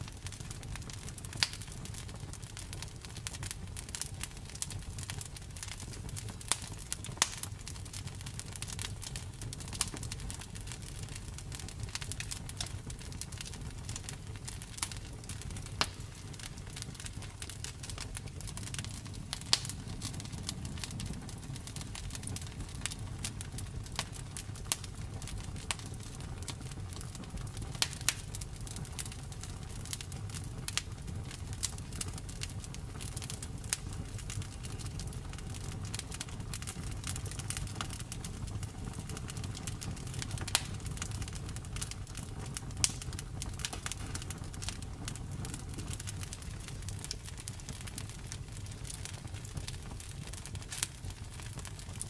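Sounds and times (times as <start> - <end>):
low rumble of flames: 0.0 - 52.0
wood fire crackling and popping: 0.0 - 52.0.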